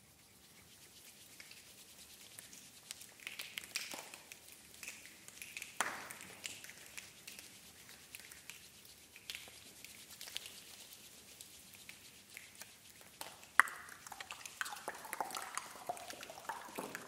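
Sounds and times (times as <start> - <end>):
patter of soft clicks and taps: 0.5 - 17.0.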